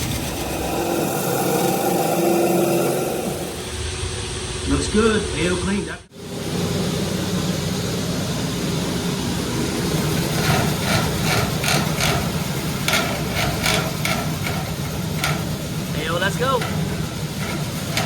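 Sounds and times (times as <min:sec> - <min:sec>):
duct-cleaning machine humming: 0:00.0 - 0:18.0.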